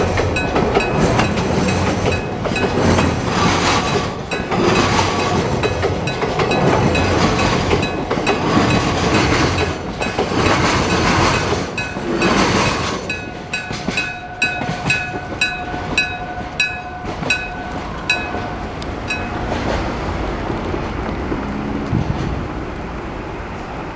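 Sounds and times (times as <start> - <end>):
crossing electric bell ringing: 0.0 - 20.0
train wagons clattering: 0.0 - 23.9.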